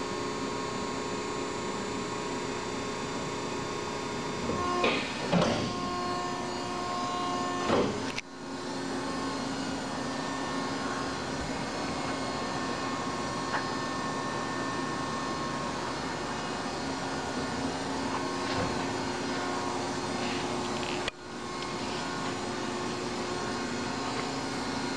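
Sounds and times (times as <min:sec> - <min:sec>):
hydraulic pump motor hum: 0:00.0 - 0:24.9.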